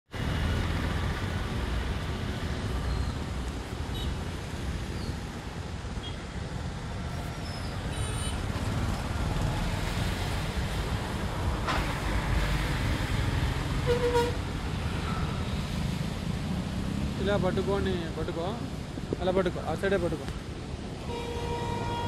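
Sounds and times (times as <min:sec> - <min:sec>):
motorcycle engines passing: 0:00.2 - 0:20.0.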